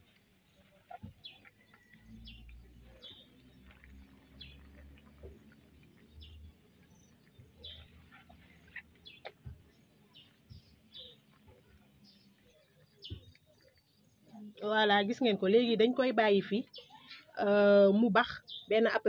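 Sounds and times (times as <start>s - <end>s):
faint bird chirps: 0.0s - 15.3s, 16.2s - 18.8s.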